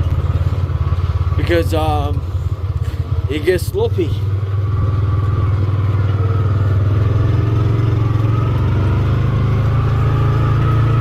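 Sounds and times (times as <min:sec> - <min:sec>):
farm vehicle engine running: 0:00.0 - 0:11.0.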